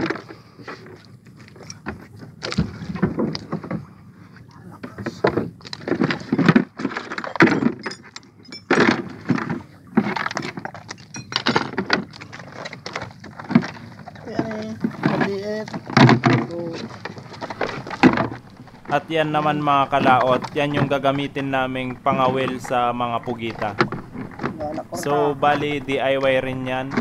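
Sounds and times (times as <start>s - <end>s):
fishing gear clinking and clattering: 0.0s - 27.0s.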